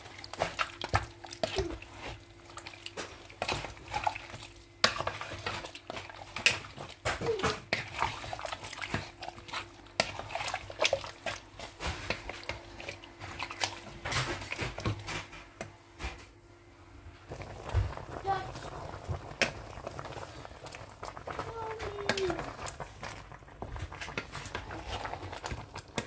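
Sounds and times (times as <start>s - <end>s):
wooden spoon scraping a pot: 0.0s - 15.6s, 17.3s - 26.0s.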